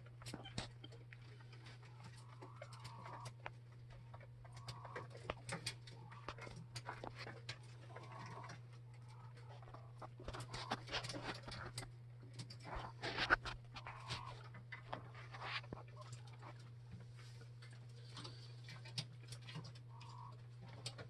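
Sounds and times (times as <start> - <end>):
quail pecking on wire mesh: 0.0 - 21.0
steady low hum: 0.0 - 21.0.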